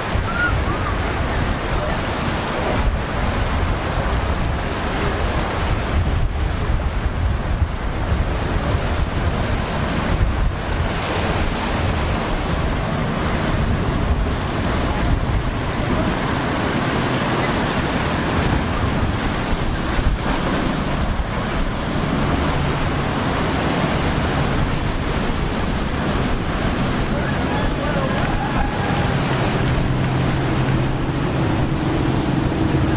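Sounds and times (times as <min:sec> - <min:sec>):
waves breaking: 0:00.0 - 0:32.9
wind buffeting microphone: 0:00.0 - 0:32.9.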